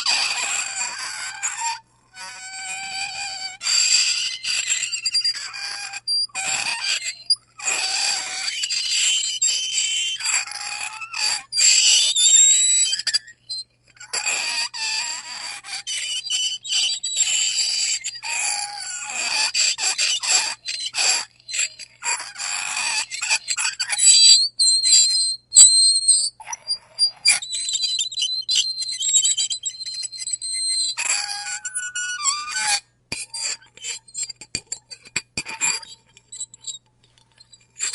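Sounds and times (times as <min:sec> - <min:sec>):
fork screeching on a plate: 0:00.0 - 0:37.9.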